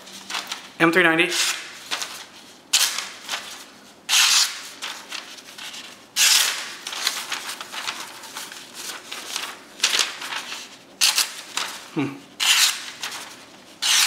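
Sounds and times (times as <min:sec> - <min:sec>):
paper rustling: 0:00.0 - 0:14.0
knife slicing paper: 0:01.4 - 0:14.0.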